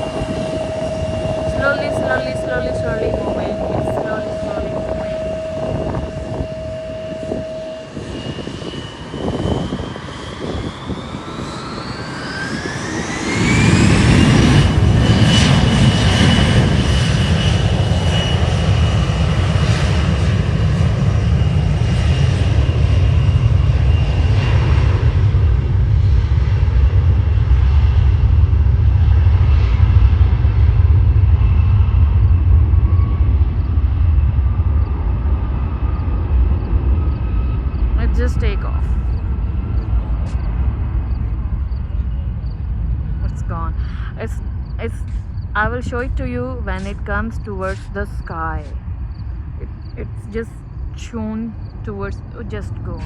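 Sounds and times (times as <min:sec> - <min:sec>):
airliner engines spooling up: 0:00.0 - 0:53.0.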